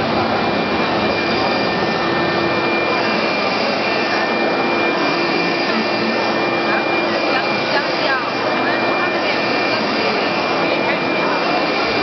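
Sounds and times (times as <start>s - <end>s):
constant high whine: 0.0s - 12.0s
printer running: 0.0s - 12.0s.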